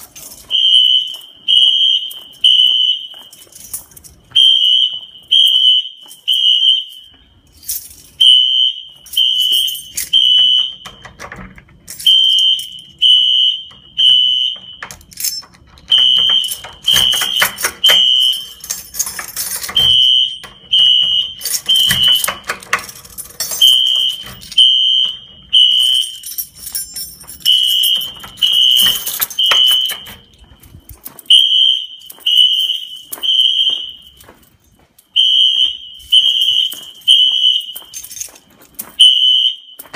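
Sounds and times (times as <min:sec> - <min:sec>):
fire alarm horn beeps: 0:00.3 - 0:07.4, 0:08.2 - 0:11.2, 0:11.9 - 0:15.1, 0:15.8 - 0:19.0, 0:19.6 - 0:34.2, 0:35.1 - 0:38.2, 0:38.9 - 0:39.9.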